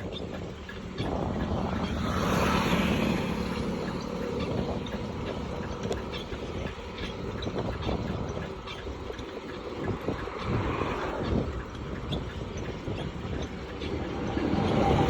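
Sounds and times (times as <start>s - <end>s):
road and wind noise: 0.0s - 15.0s
vehicle passing: 0.1s - 7.4s, 9.1s - 15.0s.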